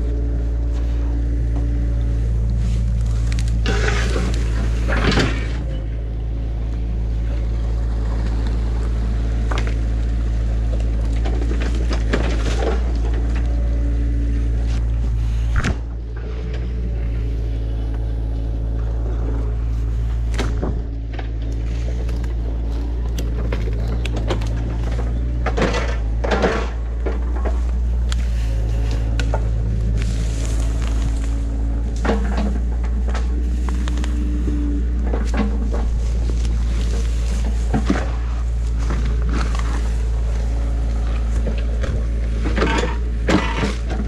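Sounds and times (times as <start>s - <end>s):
diesel engine running: 0.0s - 44.0s
sticks and brush cracking: 0.0s - 44.0s.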